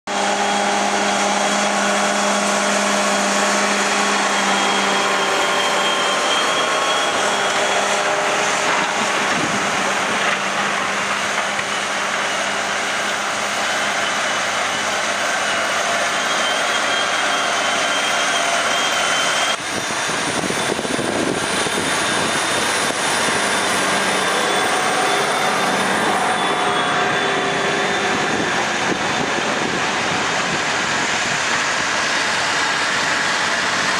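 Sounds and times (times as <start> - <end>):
high steady whine: 0.1 - 33.9
tractor diesel engines under load: 0.1 - 33.9.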